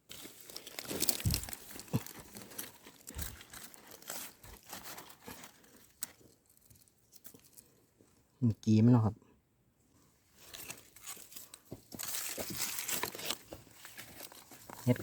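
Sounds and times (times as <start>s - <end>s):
dry leaves rustling and crackling: 0.0s - 7.6s, 10.4s - 15.0s.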